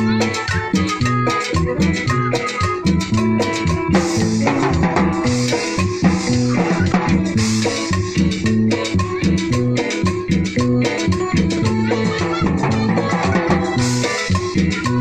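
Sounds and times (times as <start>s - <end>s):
bass line: 0.0s - 15.0s
electronic keyboard melody: 0.0s - 15.0s
shaker-like percussion: 0.0s - 15.0s.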